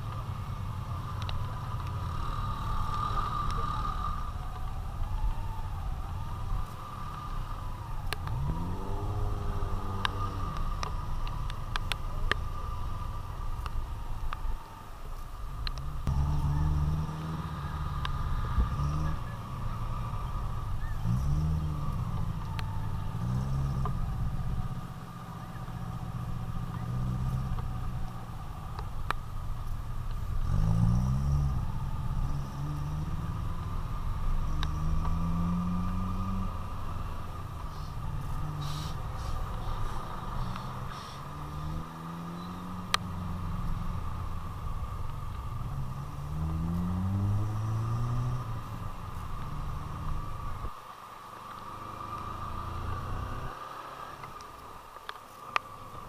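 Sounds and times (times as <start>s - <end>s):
traffic: 0.0s - 56.0s.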